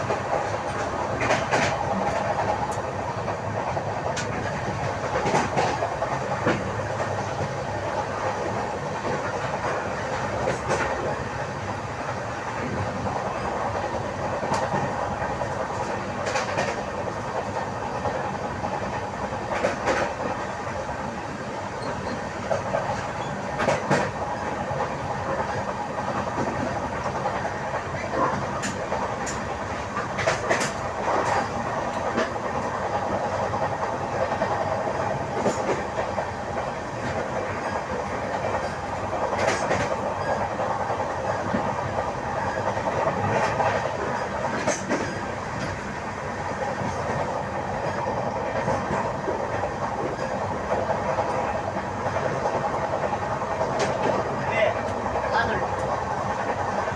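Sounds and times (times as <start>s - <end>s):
train wheels rumbling on track: 0.0s - 56.9s.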